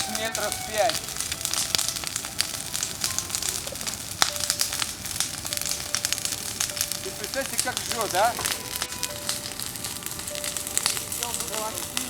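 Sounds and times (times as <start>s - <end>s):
large bonfire burning: 0.0s - 12.0s
sharp pop of burning wood: 0.0s - 12.0s.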